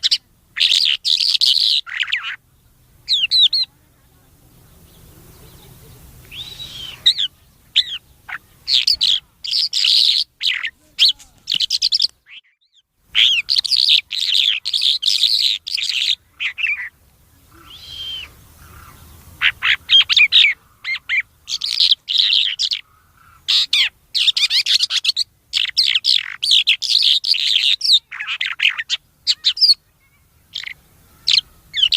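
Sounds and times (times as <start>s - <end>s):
bird chirping and twittering: 0.0s - 31.9s.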